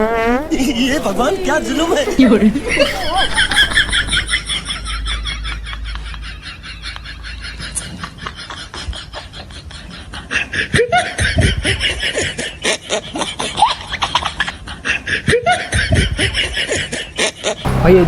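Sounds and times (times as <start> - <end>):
snickering laughter: 0.4 - 17.6.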